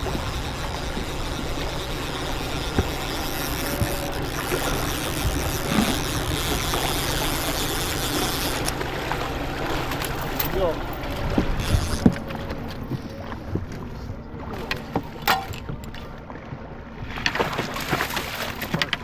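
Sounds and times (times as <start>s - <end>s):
outboard motor humming: 0.0s - 19.0s
water churning: 0.0s - 19.0s.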